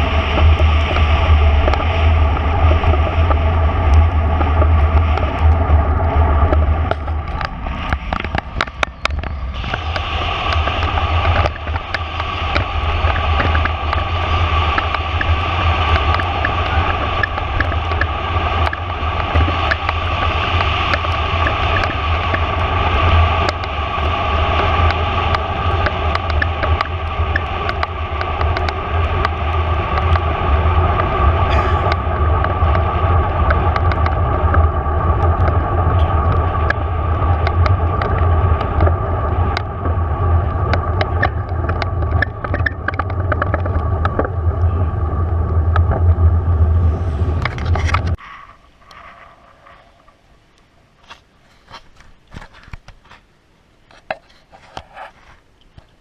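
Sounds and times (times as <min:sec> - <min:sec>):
wind buffeting microphone: 0:00.0 - 0:52.9
road noise from riding: 0:00.0 - 0:56.0.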